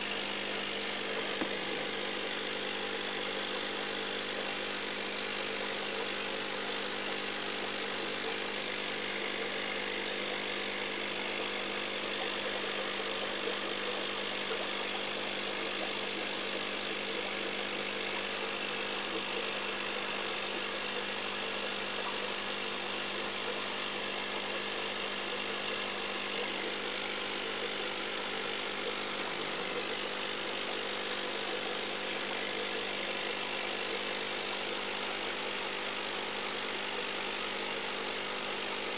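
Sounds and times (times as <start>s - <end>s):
aquarium pump humming: 0.0s - 38.9s.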